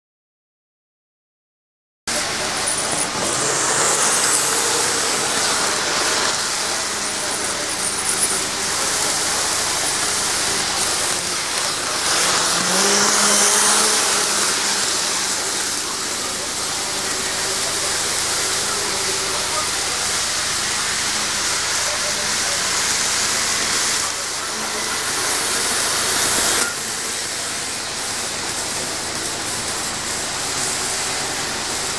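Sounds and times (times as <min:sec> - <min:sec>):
model train rolling hiss: 0:02.1 - 0:31.9.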